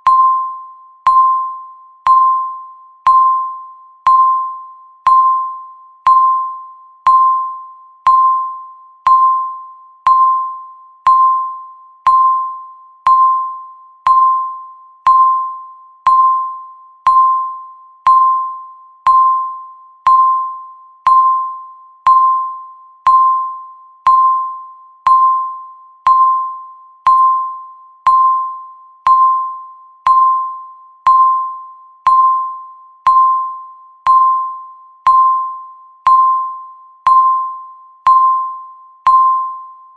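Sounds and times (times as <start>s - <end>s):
timer beeping chime: 0.0s - 39.9s.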